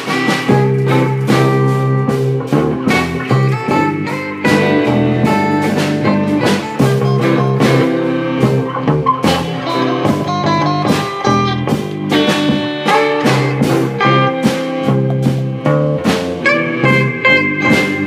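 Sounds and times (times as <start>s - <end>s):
electric guitar playing: 0.0s - 18.0s
steady drum beat: 0.0s - 18.0s.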